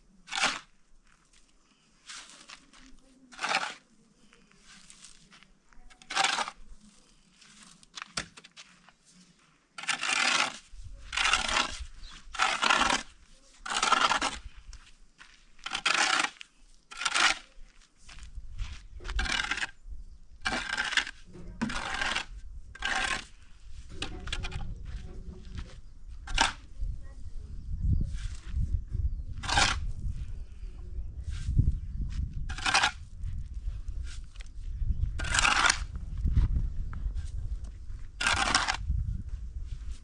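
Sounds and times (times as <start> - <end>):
shovel scraping sand and gravel: 0.2 - 19.8, 20.4 - 27.0, 28.1 - 28.7, 29.3 - 30.2, 31.2 - 31.7, 32.4 - 34.6, 35.2 - 36.0, 38.0 - 39.0, 39.8 - 40.0.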